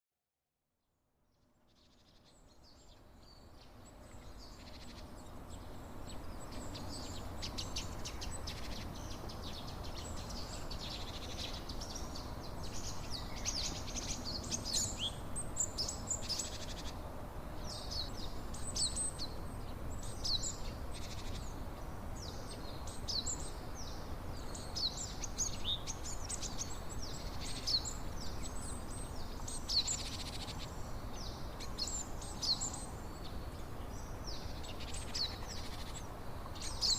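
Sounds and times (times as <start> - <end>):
small birds chirping and trilling: 1.4 - 36.9.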